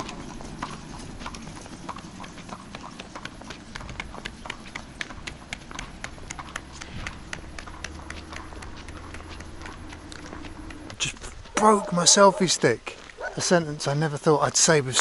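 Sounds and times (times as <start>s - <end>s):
horse hooves on asphalt: 0.0s - 15.0s.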